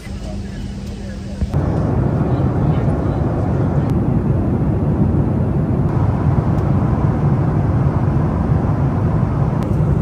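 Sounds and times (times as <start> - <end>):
jet engines and airflow rushing: 0.0 - 10.0.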